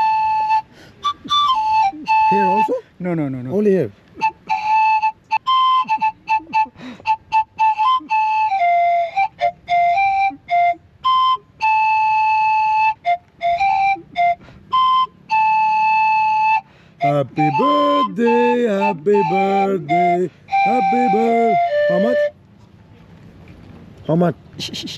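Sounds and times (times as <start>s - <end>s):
small flute playing notes: 0.0s - 22.5s.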